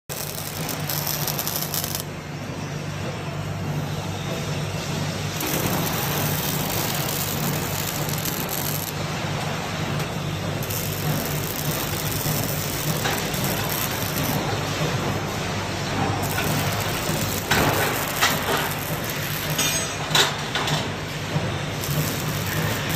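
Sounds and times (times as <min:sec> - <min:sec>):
welding arc crackling hiss: 0:00.1 - 0:02.1, 0:05.4 - 0:22.9.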